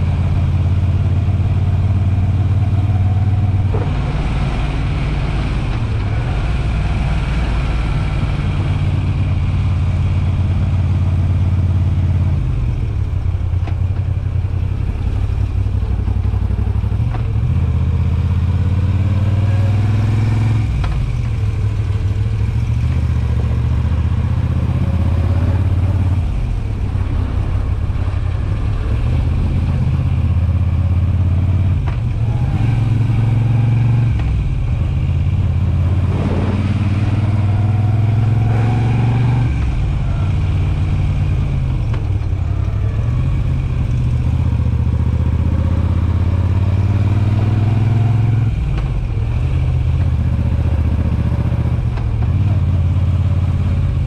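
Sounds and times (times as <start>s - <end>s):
motorcycle exhaust rumble: 0.0s - 54.0s.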